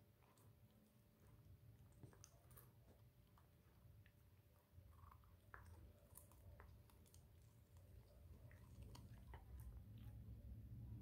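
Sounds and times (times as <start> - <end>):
dog gnawing carrot: 0.0 - 10.7.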